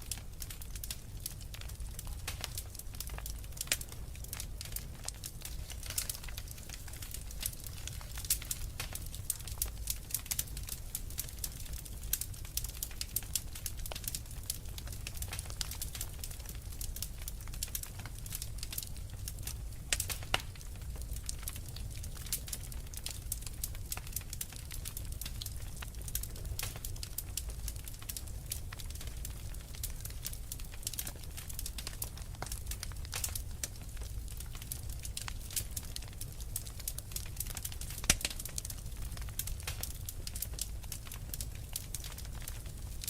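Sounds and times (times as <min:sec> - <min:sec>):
flames rumbling: 0:00.0 - 0:43.0
logs crackling and popping: 0:00.0 - 0:43.0.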